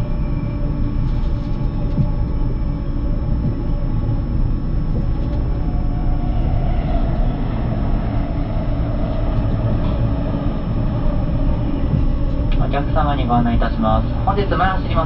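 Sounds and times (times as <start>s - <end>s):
thin high whine: 0.0s - 15.0s
train running rumble inside carriage: 0.0s - 15.0s.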